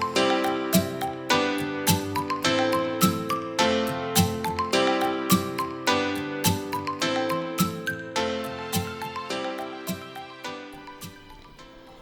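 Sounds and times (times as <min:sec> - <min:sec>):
soft plucked instrumental music: 0:00.0 - 0:12.0.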